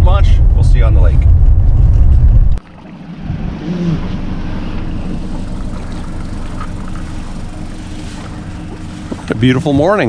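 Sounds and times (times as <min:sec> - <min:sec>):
wind noise: 0:00.0 - 0:02.6, 0:03.2 - 0:09.9
water noise: 0:00.0 - 0:10.0
boat motor humming: 0:01.3 - 0:10.0.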